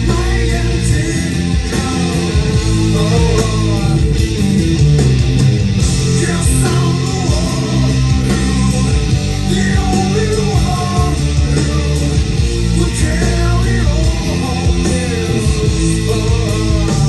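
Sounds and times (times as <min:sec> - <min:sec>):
rock song with guitars and vocals: 0:00.0 - 0:17.0.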